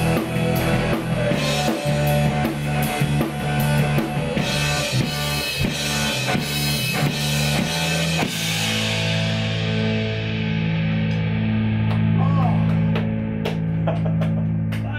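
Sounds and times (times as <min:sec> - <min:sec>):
drum kit drumming: 0:00.0 - 0:14.9
live rock band playing: 0:00.0 - 0:14.9.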